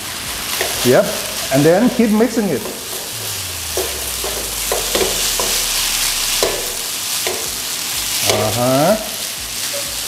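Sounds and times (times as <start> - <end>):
rice sizzling in a wok: 0.0 - 10.0.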